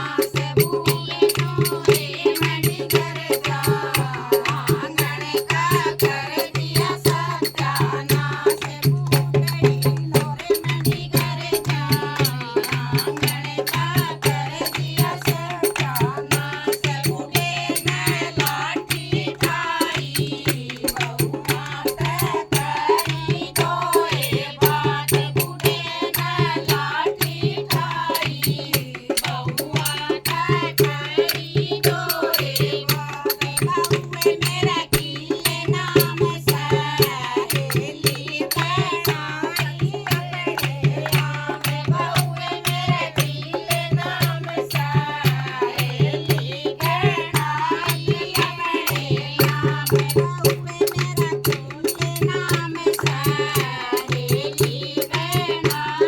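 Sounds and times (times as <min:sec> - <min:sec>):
hand drum and rattle percussion: 0:00.0 - 0:56.0
people singing folk song: 0:00.0 - 0:56.0.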